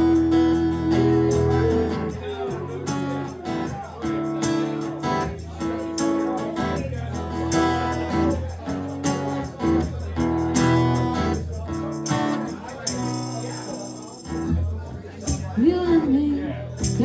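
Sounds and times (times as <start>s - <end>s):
live country band playing: 0.0s - 17.0s
strummed acoustic guitar: 0.0s - 17.0s.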